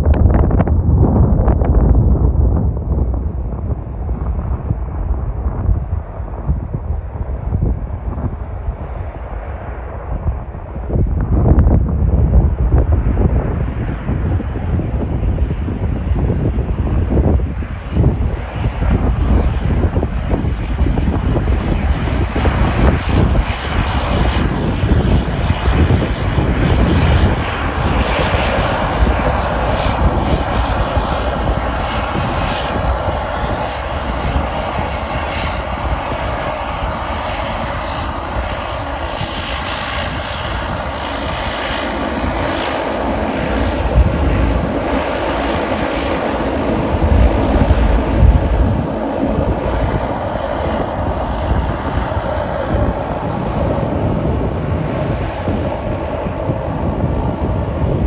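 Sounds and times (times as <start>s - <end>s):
airliner engines rumbling: 0.0s - 58.0s.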